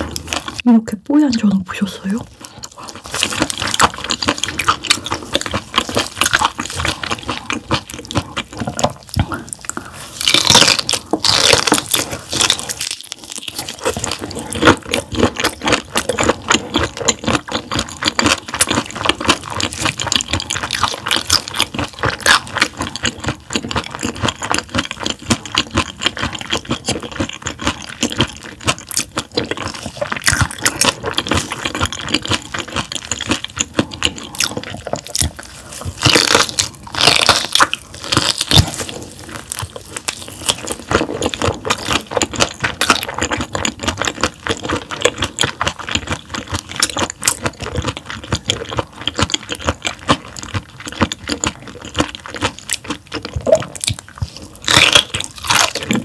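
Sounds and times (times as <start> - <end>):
wet chewing and crunching: 0.0 - 56.0.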